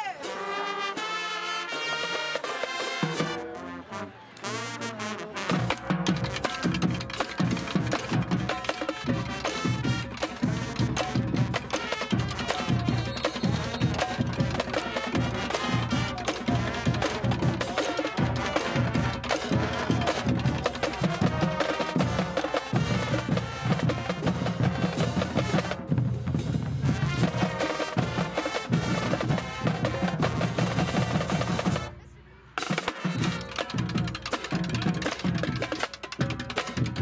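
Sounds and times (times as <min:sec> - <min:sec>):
snare drums: 0:00.0 - 0:03.6, 0:04.4 - 0:37.0
tenor drums: 0:00.0 - 0:03.6, 0:04.4 - 0:37.0.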